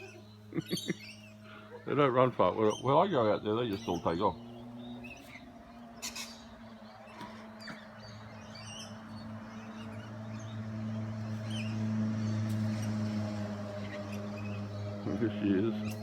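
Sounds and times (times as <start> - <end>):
bird chirps and calls: 0.0 - 16.0
low machine hum: 0.0 - 16.0.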